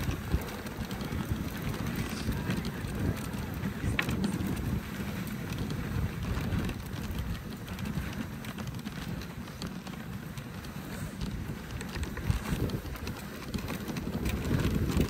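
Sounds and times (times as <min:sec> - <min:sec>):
sled runners scraping snow: 0:00.0 - 0:15.0
wind on microphone: 0:00.0 - 0:15.0.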